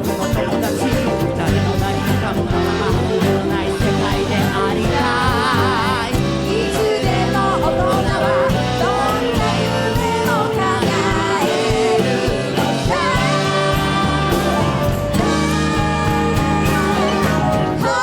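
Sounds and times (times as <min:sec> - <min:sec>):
live pop band playing: 0:00.0 - 0:18.0.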